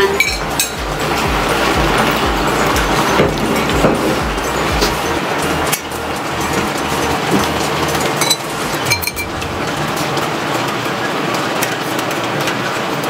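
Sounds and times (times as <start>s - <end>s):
dinner table background noise: 0.0s - 13.0s
utensils clinking on dishes: 0.0s - 13.0s.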